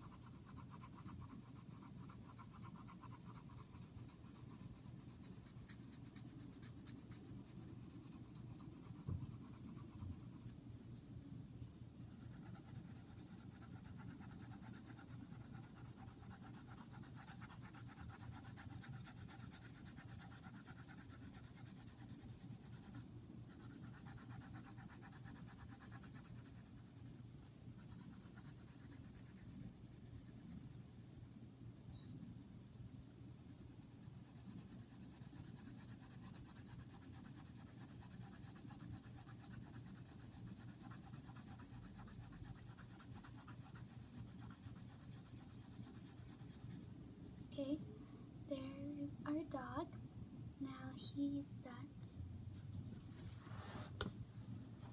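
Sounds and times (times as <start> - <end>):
pencil scratching on paper: 0.0 - 10.5, 12.1 - 27.2, 27.8 - 32.7, 33.5 - 46.9.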